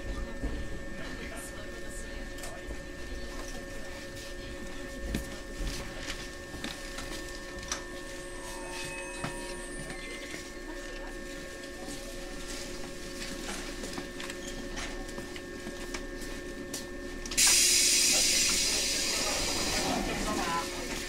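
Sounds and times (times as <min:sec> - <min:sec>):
electric railcar hum: 0:00.0 - 0:21.0.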